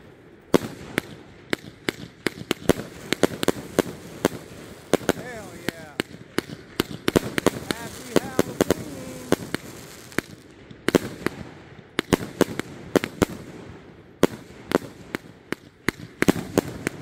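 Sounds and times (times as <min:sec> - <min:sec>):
fireworks bangs: 0:00.5 - 0:17.0.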